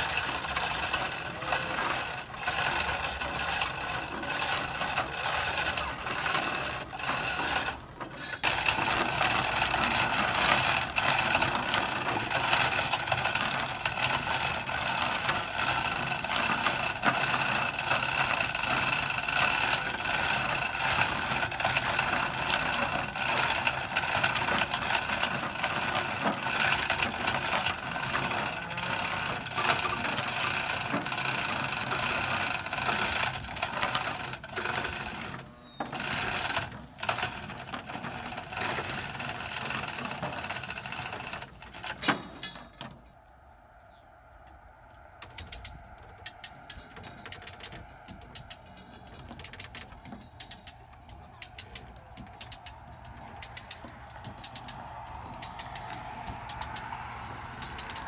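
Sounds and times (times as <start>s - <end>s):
hoist ratchet clicking: 0.0s - 43.0s, 45.2s - 58.0s
hoist chain rattling: 0.0s - 43.2s, 45.2s - 58.0s.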